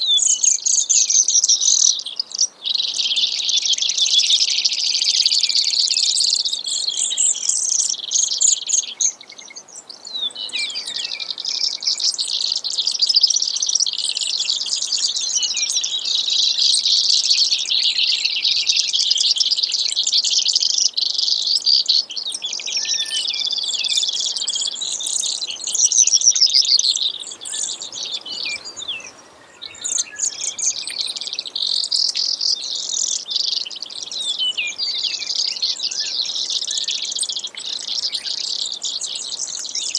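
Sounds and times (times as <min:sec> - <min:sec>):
sparrow singing trills and buzzes: 0:00.0 - 0:39.9.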